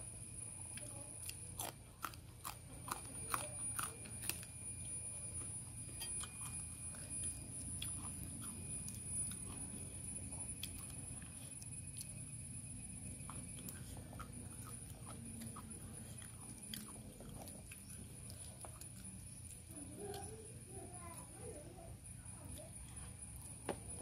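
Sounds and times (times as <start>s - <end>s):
crunching and chewing vegetable: 0.0s - 24.0s.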